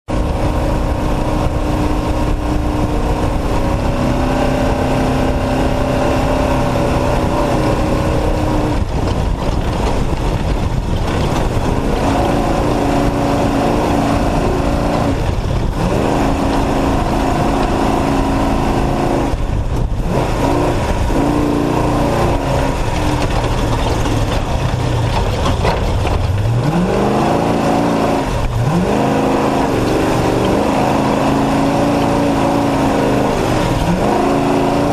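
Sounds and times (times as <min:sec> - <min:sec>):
wind and road noise: 0:00.0 - 0:34.9
truck engine revving: 0:00.1 - 0:34.9.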